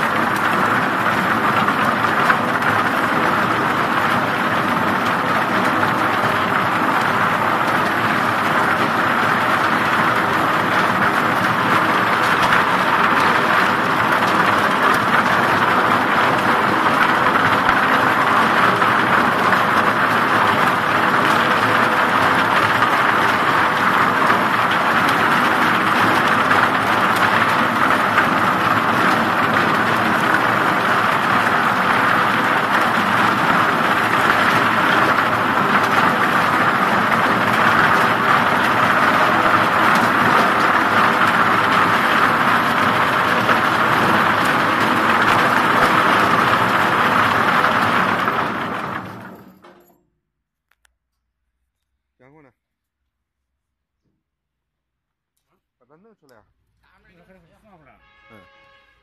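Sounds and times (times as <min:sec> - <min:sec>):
rattle of wood against metal: 0:00.0 - 0:50.0
machine hum: 0:00.0 - 0:54.6.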